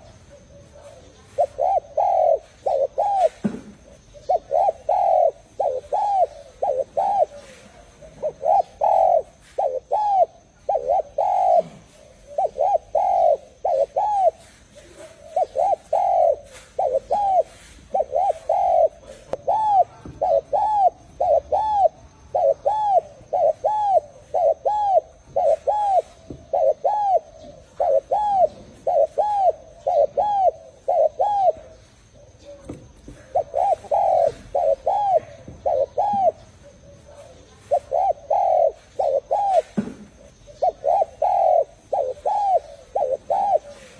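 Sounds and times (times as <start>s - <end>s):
dove cooing: 0.0s - 43.9s
small birds chirping: 0.0s - 43.9s.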